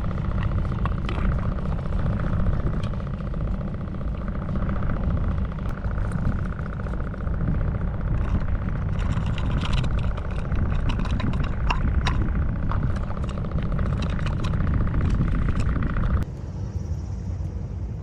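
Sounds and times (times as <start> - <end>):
fast fine ticking: 0.0 - 16.2
scattered clicks: 0.0 - 16.3
wind buffeting microphone: 0.0 - 18.0.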